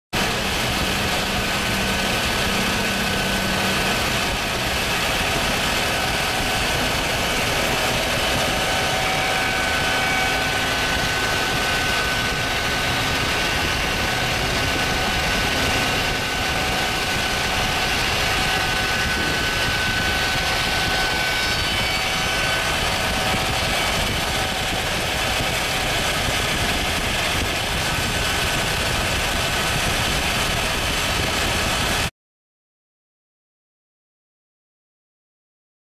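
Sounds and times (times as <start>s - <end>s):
planer running with high whine: 0.2s - 32.1s.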